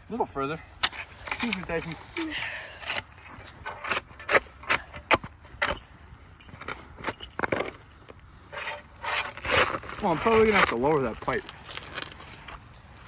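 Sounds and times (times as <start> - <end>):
shovel digging into dirt: 0.8 - 12.7.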